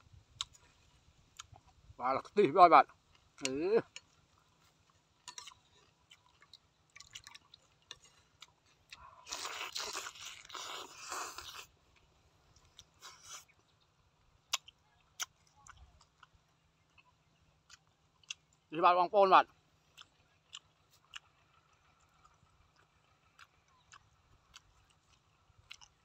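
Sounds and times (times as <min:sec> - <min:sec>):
crunching while chewing: 0:00.3 - 0:02.3, 0:02.9 - 0:18.7, 0:19.4 - 0:26.0
chewing clicks: 0:03.1 - 0:13.6, 0:14.5 - 0:18.7, 0:19.5 - 0:26.0.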